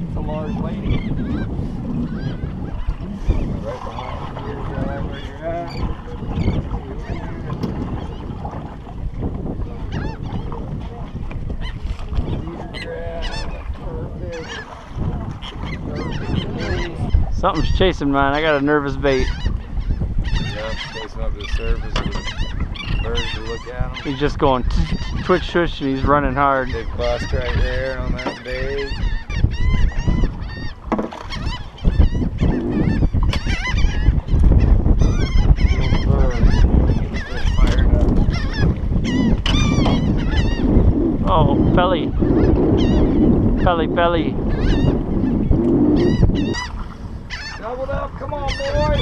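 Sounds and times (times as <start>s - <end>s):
seabirds calling: 0.0s - 49.0s
water noise: 0.0s - 49.0s
wind: 0.0s - 49.0s.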